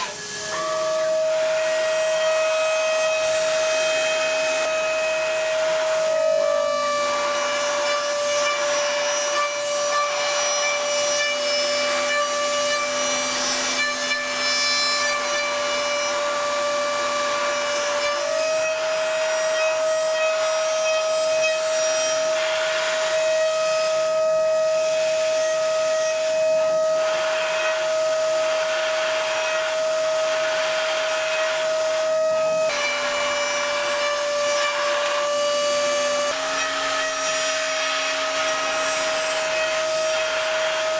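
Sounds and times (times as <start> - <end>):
hiss of metal cutting: 0.0 - 40.9
milling machine spindle whine: 0.0 - 40.9.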